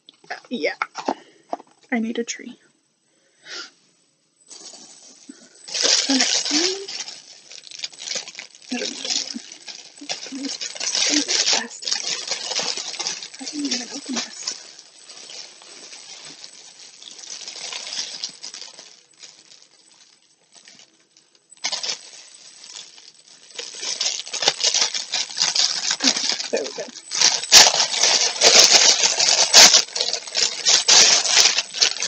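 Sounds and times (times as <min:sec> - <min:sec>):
plastic packaging crinkling: 0:04.5 - 0:32.0.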